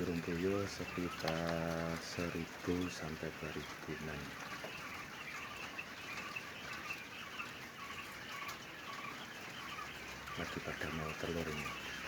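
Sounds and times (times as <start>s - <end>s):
quail chirping in a flock: 0.0s - 12.0s.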